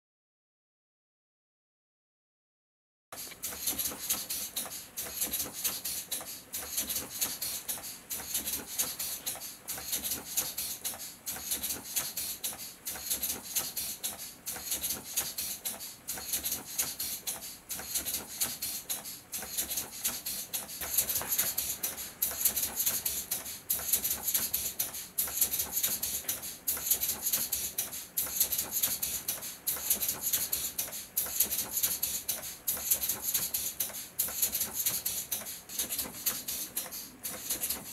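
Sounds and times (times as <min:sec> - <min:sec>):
rhythmic gas puffing hiss: 0:03.2 - 0:37.9.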